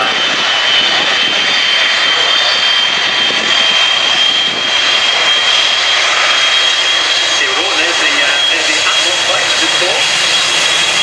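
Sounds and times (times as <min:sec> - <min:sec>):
high-pitched jet whine: 0:00.0 - 0:11.0
jet engine roar: 0:00.0 - 0:11.0.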